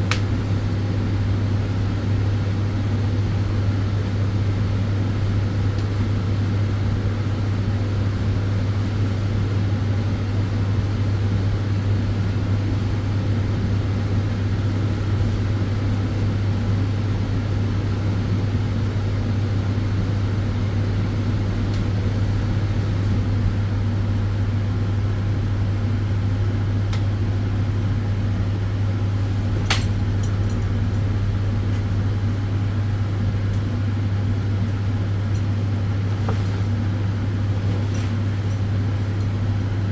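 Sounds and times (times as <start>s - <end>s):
constant low hum: 0.0s - 39.9s
tanning bed fan noise: 0.0s - 39.9s.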